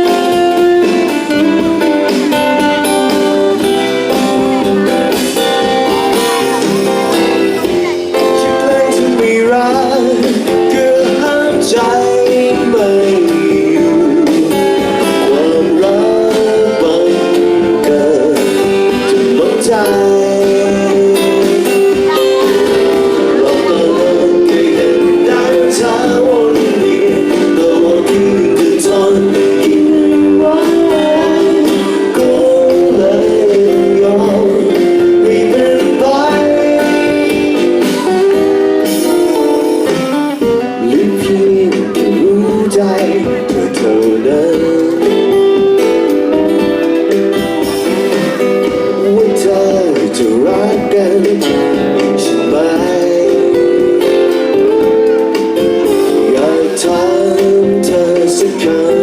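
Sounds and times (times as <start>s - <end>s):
guitar melody: 0.0s - 59.0s
held chords: 0.0s - 59.0s
live band playing pop ballad: 0.0s - 59.0s
steady drum beat: 0.0s - 59.0s.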